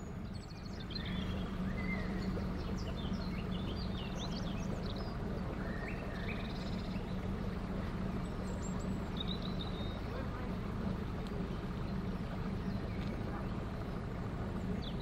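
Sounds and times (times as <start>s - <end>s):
boat diesel engine humming: 0.0s - 15.0s
songbirds chirping and trilling: 0.0s - 15.0s.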